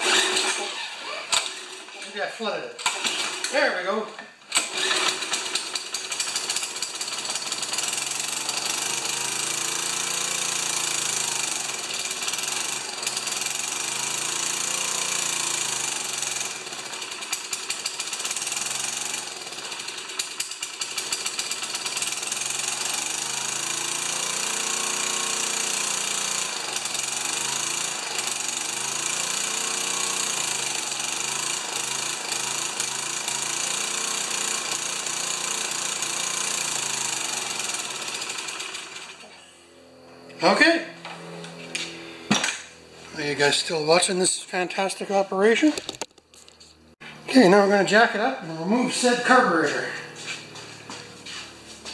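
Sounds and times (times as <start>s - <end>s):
small engine running: 0.0s - 2.2s, 2.8s - 51.9s.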